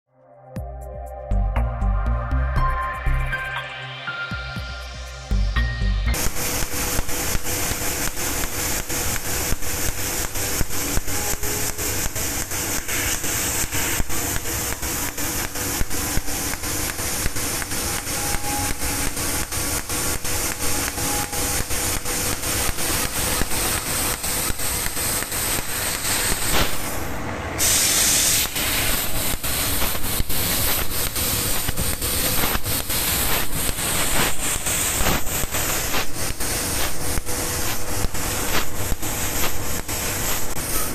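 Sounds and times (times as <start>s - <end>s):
laser cutter hissing: 6.1s - 40.9s.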